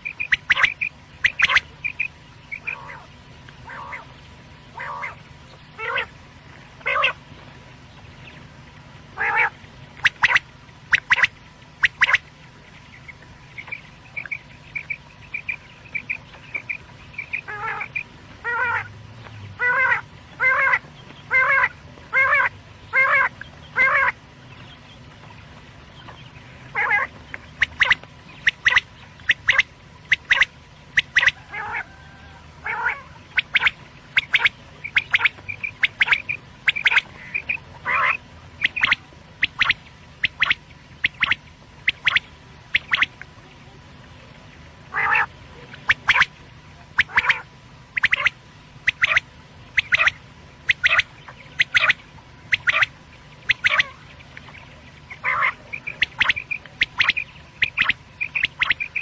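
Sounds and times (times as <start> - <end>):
quail calling: 0.0 - 6.2, 6.8 - 7.2, 9.2 - 18.9, 19.6 - 24.9, 26.0 - 43.2, 44.9 - 59.0.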